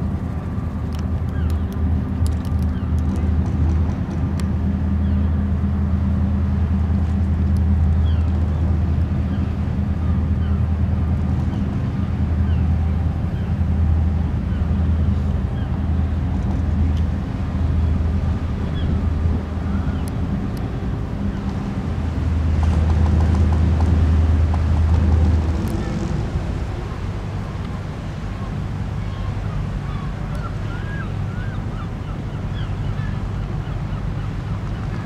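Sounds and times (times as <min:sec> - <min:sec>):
ship engines droning: 0:00.0 - 0:35.0.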